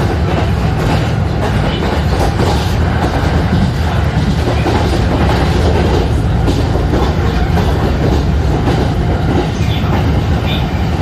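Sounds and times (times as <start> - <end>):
electric train rumbling: 0.0 - 11.0
wheel clatter on rails: 0.0 - 11.0.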